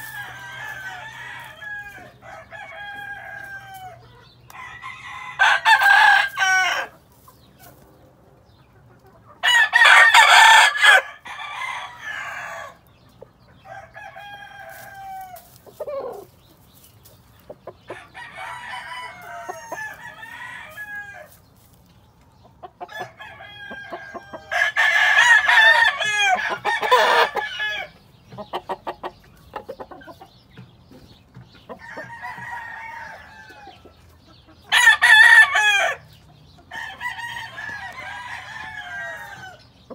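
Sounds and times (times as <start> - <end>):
roosters crowing: 0.0 - 7.3, 9.3 - 16.4, 17.6 - 21.8, 22.7 - 29.8, 31.6 - 39.9
chickens clucking: 0.0 - 39.9.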